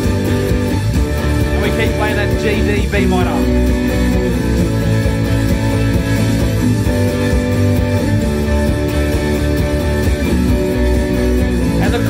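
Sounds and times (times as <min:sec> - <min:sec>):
electric guitar strumming chords: 0:00.0 - 0:12.0.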